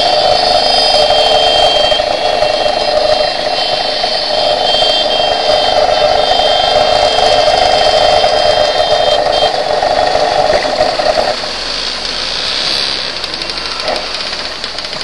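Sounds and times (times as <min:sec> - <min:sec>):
engine rattle: 0:00.0 - 0:15.0
scooter engines droning: 0:00.0 - 0:15.0.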